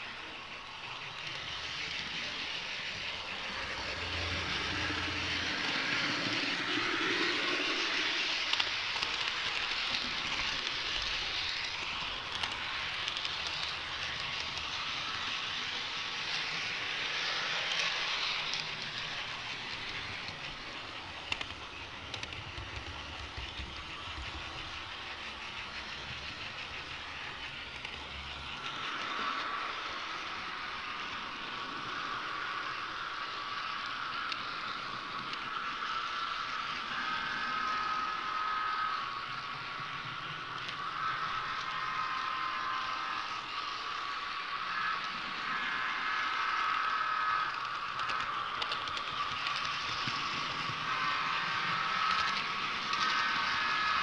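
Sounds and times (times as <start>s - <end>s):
model train wheels on rail: 0.0s - 54.0s.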